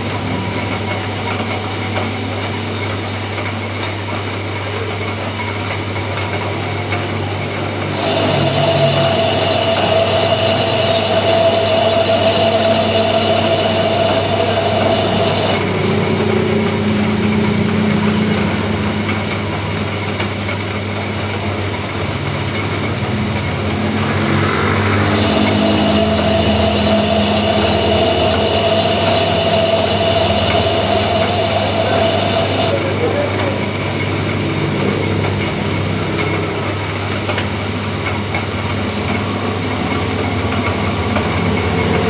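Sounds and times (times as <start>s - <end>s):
metal lathe humming and whining: 0.0s - 42.0s.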